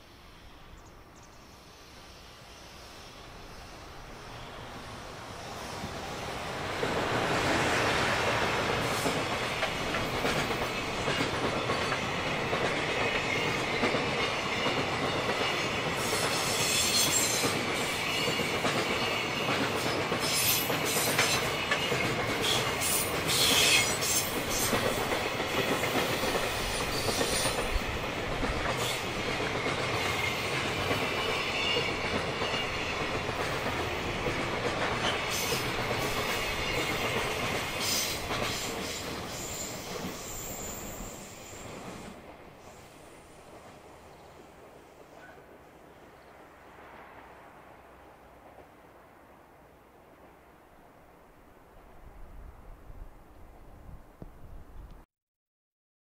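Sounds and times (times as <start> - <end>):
locomotive passing: 1.9 - 53.8.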